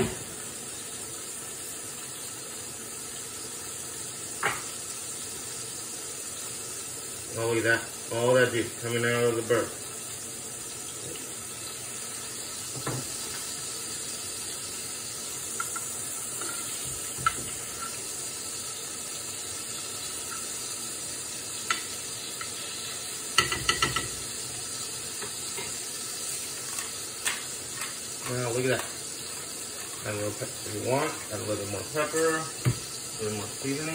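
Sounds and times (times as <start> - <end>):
meat sizzling in a frying pan: 0.0 - 33.9.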